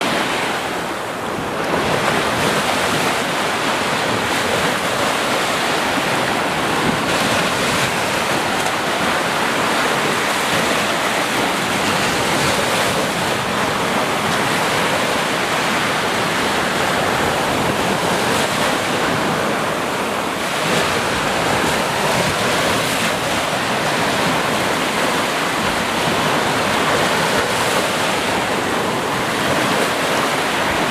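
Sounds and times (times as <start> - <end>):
waves washing up a beach: 0.0 - 30.9.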